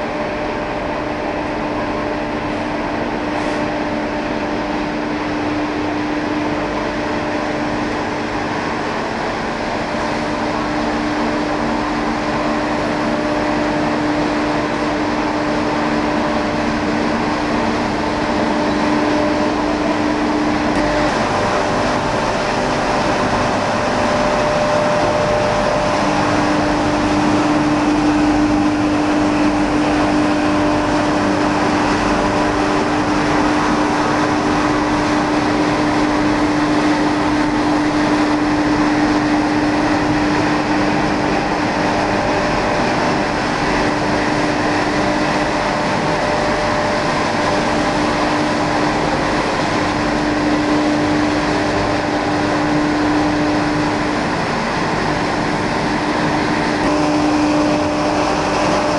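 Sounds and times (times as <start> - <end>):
loud machine noise: 0.0 - 58.9
steady hum: 0.0 - 58.9.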